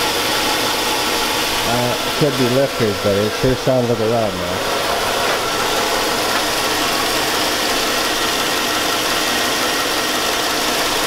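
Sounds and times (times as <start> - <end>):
engine idling with knock: 0.0 - 11.0.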